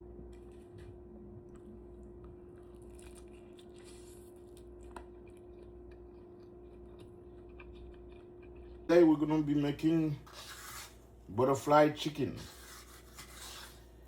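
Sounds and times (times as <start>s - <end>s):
steady room hum: 0.0s - 14.0s.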